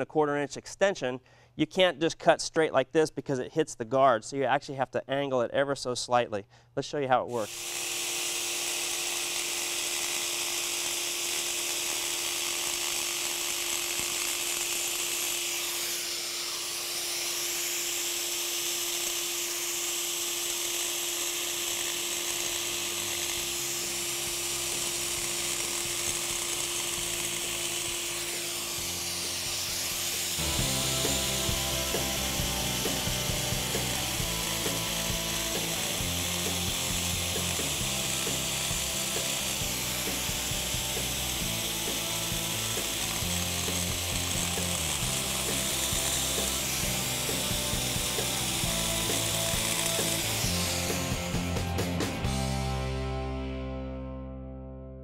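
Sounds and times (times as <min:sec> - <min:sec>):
angle grinder cutting: 0:07.3 - 0:52.9.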